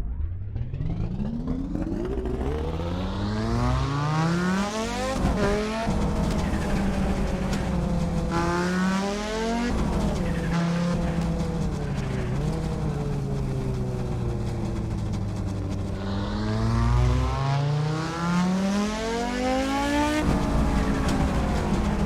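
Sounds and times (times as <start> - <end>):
car engine revving: 0.1 - 22.0.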